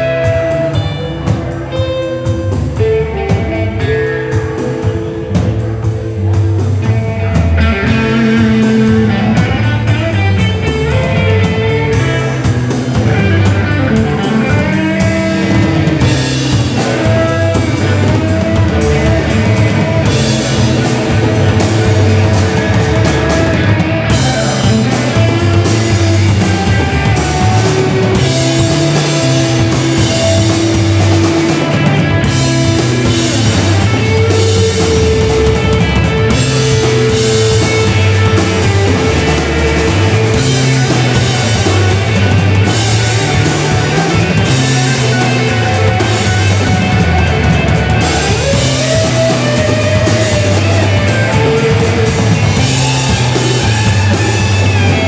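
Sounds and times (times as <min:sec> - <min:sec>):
electric guitar sustained notes: 0:00.0 - 0:55.0
live rock band playing: 0:00.0 - 0:55.0.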